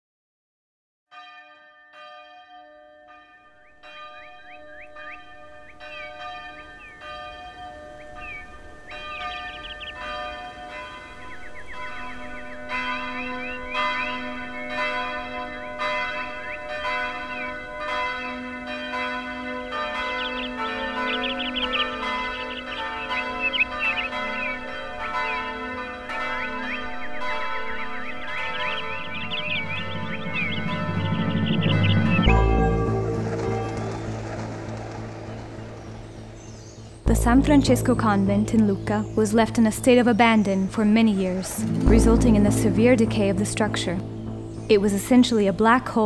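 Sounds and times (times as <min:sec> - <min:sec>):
church bells ringing: 0:01.1 - 0:46.0.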